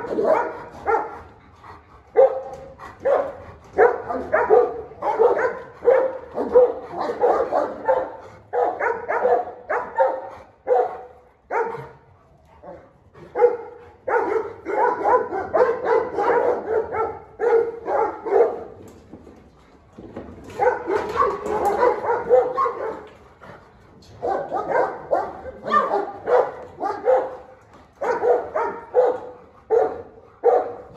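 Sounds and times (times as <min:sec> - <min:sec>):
large dogs barking: 0:00.0 - 0:30.9.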